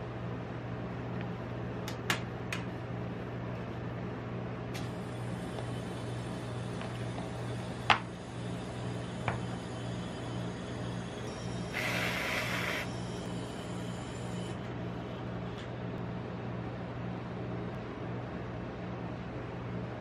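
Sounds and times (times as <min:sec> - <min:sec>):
refrigeration unit humming: 0:00.0 - 0:20.0.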